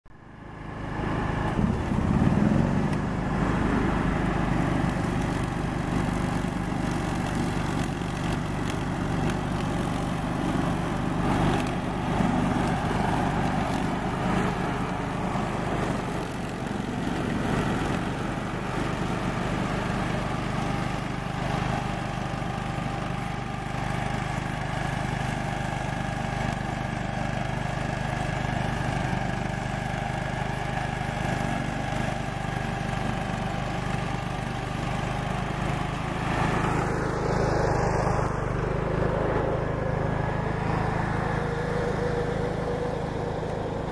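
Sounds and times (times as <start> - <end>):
ride-on mower engine running: 0.1 - 43.9
mower cutting tall grass: 0.2 - 43.9.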